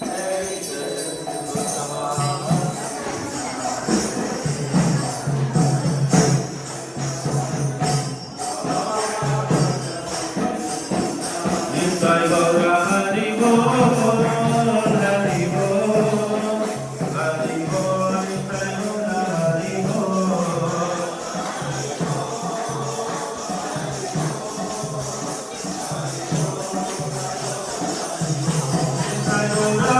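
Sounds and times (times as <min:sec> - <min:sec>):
jingling percussion: 0:00.0 - 0:29.9.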